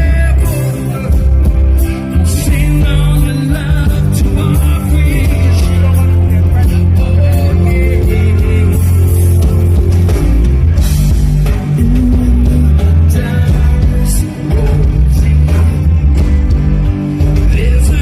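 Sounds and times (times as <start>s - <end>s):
drums: 0.0s - 18.0s
heavy bass line: 0.0s - 18.0s
live reggae band: 0.0s - 18.0s.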